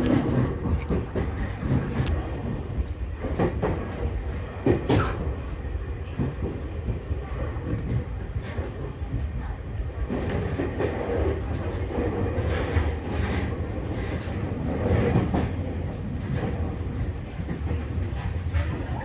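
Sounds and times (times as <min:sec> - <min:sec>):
clacks over rail joints: 0:00.0 - 0:19.0
train wheels rumbling on rail: 0:00.0 - 0:19.0.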